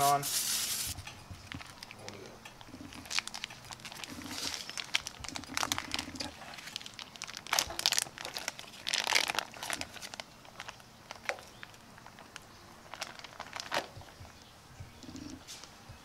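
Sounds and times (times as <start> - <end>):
plastic film crinkling and tearing: 0.0 - 14.3.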